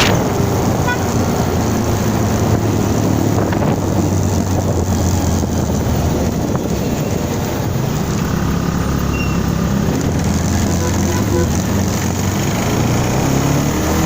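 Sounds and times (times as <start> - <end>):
wind buffeting microphone: 0.0 - 12.2
motorcycle engine running: 0.0 - 13.2.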